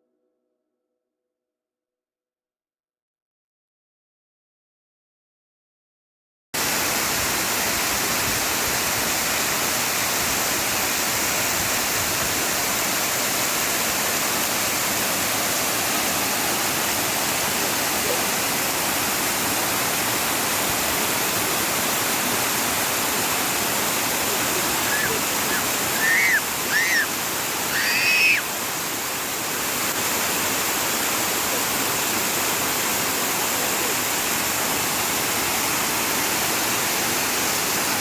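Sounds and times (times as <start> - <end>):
water pouring over waterfall: 6.6 - 38.0.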